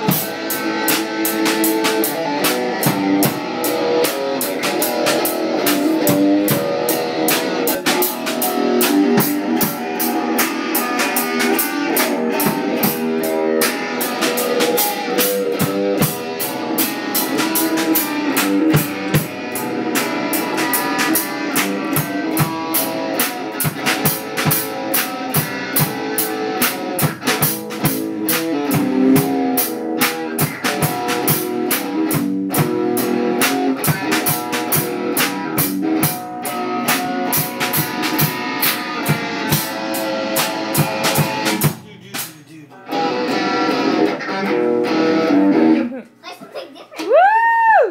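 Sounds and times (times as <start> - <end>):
electric guitar notes: 0.0 - 42.1, 42.7 - 46.2
drum kit beat: 0.0 - 46.3.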